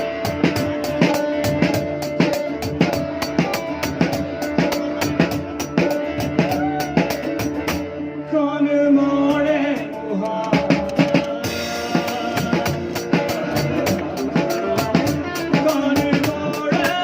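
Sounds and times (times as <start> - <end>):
drum kit beat: 0.0 - 7.9, 9.3 - 17.0
band playing a song: 0.0 - 17.0.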